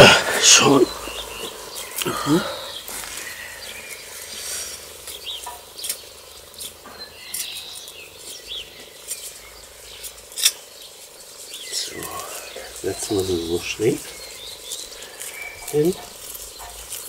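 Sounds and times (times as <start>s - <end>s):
hand rake scraping soil: 0.0s - 17.0s.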